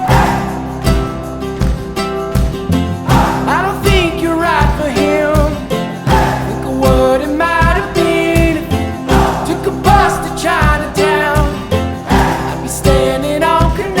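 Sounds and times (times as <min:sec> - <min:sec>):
song with guitar and vocals: 0:00.0 - 0:14.0.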